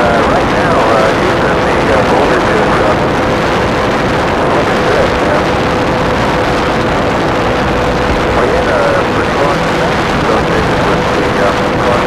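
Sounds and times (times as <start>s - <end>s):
model plane engine running: 0.0s - 12.0s
steady tone: 0.0s - 12.0s
wind rush: 0.0s - 12.0s.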